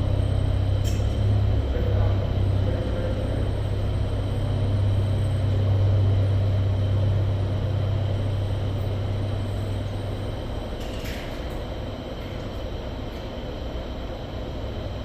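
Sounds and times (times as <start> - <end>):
low machine drone: 0.0 - 15.0.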